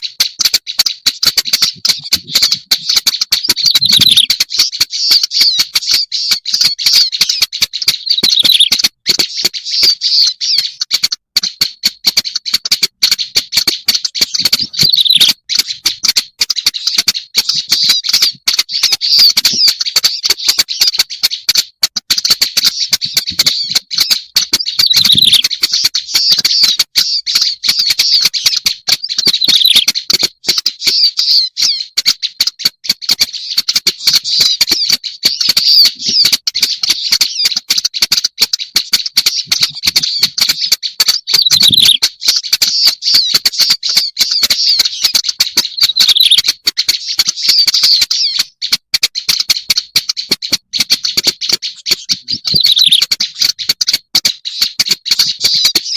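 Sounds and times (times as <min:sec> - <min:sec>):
reed warbler song: 0:00.0 - 0:55.9.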